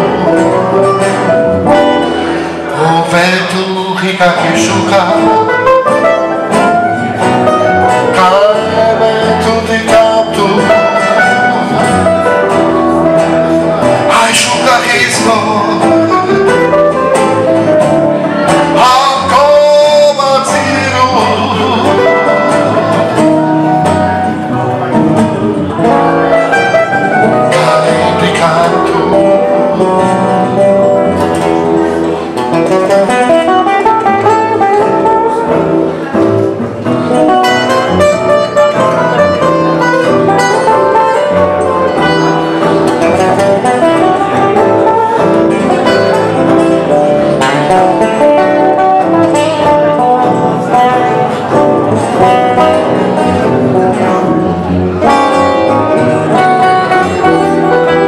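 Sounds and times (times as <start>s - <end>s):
acoustic guitar fast melody: 0.0s - 58.0s
plucked double bass: 0.0s - 58.0s
rhythm guitar: 0.0s - 58.0s.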